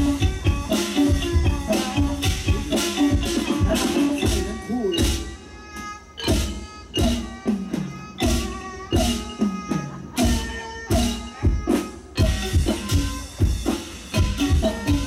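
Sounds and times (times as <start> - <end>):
drum strokes: 0.0 - 15.0
ringing pitched tones: 0.0 - 15.0
traditional ensemble music: 0.0 - 15.0.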